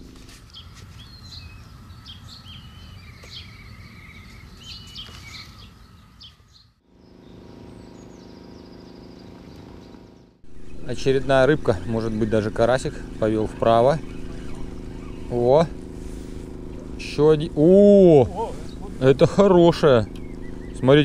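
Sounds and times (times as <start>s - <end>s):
low outdoor rumble: 0.0s - 6.0s, 6.8s - 21.0s
small birds chirping: 0.0s - 21.0s
steady low hum: 0.0s - 21.0s.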